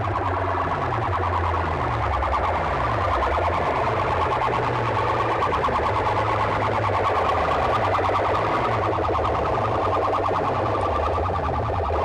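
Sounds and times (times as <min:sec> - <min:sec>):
distorted warbling siren tone: 0:00.0 - 0:12.0.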